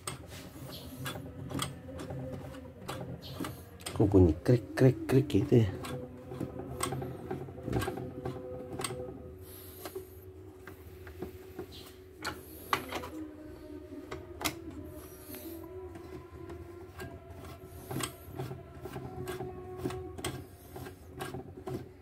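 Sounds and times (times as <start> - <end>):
faint steady hum: 0.0 - 18.7.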